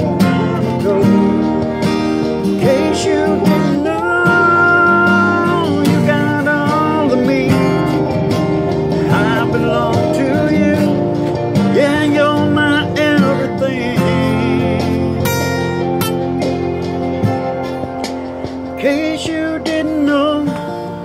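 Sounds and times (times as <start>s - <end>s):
man singing: 0.0s - 15.6s, 18.7s - 21.0s
acoustic guitar strumming: 0.0s - 21.0s.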